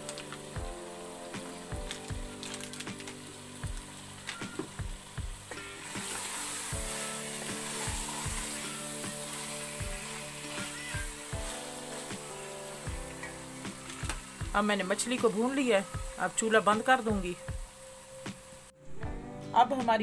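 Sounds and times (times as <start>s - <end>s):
curry sizzling in oil: 0.0s - 18.8s
soft background music with beat: 0.0s - 20.0s.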